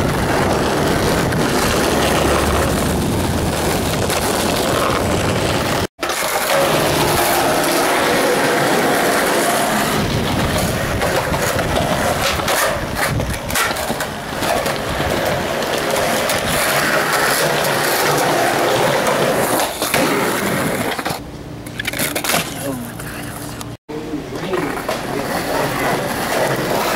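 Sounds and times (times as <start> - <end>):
skateboard clacks: 0.0 - 22.6, 24.4 - 26.9
skateboard wheels rolling on concrete: 0.0 - 26.9.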